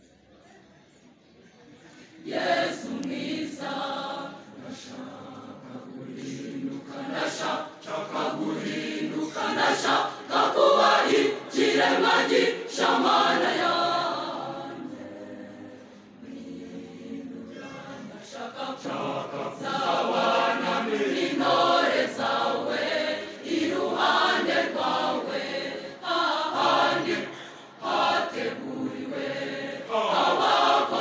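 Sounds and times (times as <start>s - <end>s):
choir singing a hymn: 2.0s - 31.0s.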